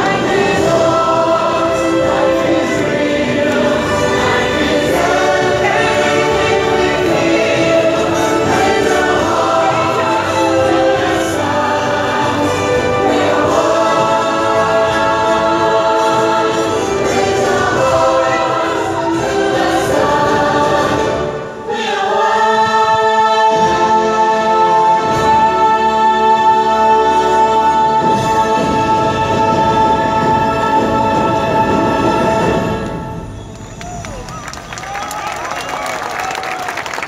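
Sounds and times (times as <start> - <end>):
choir singing: 0.0 - 33.4
orchestral music: 0.0 - 37.0.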